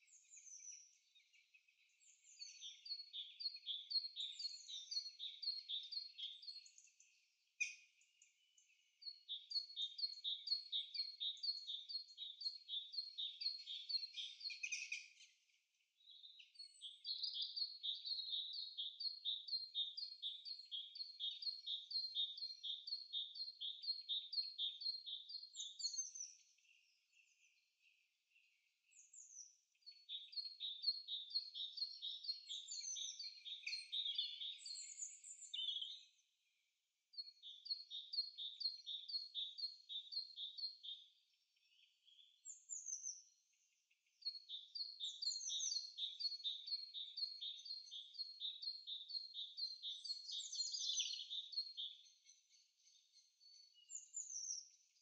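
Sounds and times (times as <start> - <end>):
faint birdsong chirping: 0.0 - 55.0.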